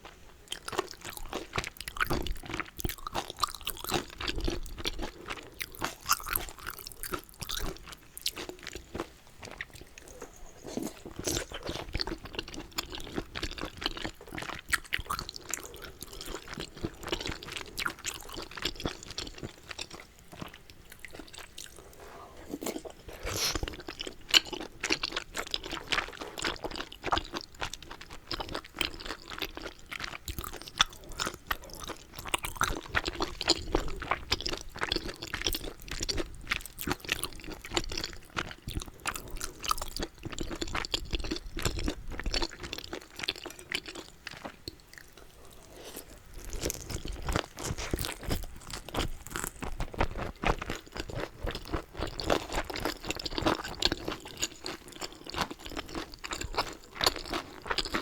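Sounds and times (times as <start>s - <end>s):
close wet chewing: 0.5s - 58.0s.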